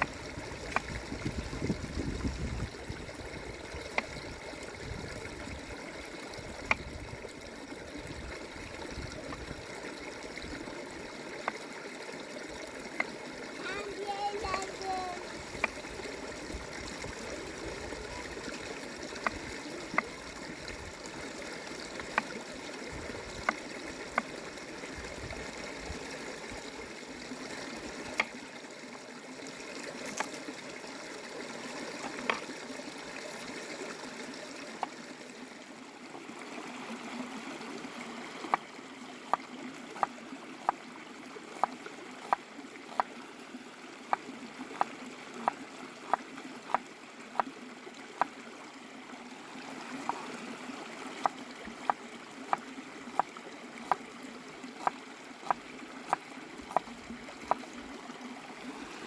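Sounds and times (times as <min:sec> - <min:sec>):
small stream trickling: 0:00.0 - 0:59.0.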